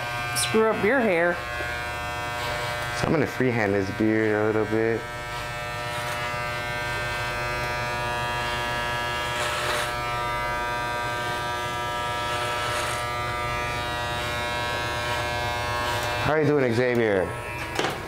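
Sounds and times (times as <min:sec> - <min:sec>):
hair clippers buzzing: 0:00.0 - 0:18.0.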